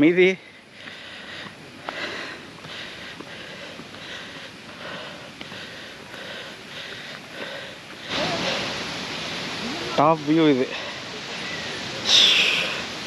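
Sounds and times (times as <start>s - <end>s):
person panting: 0.4s - 8.7s, 10.7s - 13.0s.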